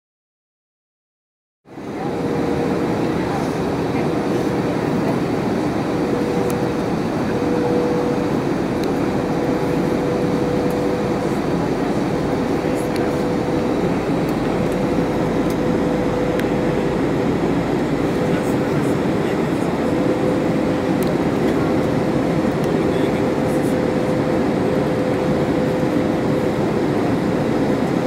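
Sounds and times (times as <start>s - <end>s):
rush of engines and airflow: 1.7s - 28.0s
steady hum: 1.7s - 28.0s.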